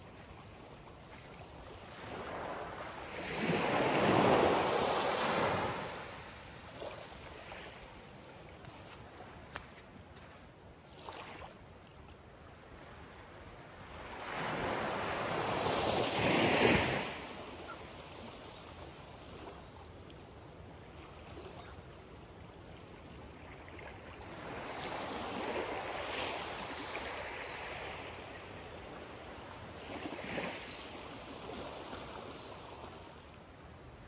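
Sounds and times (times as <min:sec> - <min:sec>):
small waves lapping on shore: 0:00.0 - 0:34.0.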